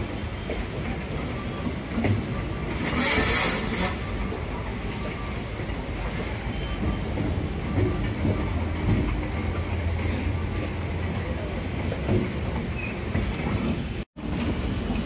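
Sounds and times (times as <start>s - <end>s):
train wheels clicking over joints: 0.3s - 15.0s.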